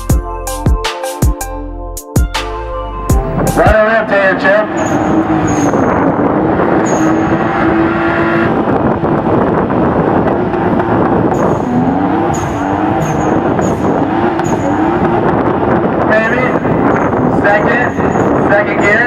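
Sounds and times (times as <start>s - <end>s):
car engine at high revs: 3.3s - 18.9s
tires squealing: 3.4s - 19.0s.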